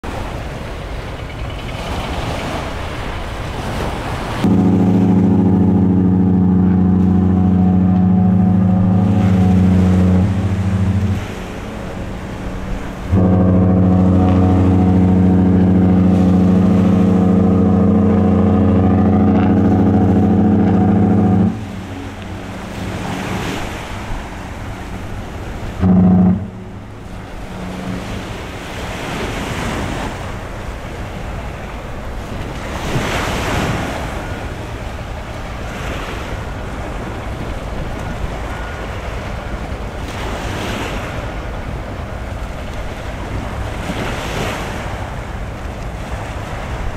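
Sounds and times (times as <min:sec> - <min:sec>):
lapping waves: 0:00.0 - 0:46.9
deep ship horn blasts: 0:02.2 - 0:46.9.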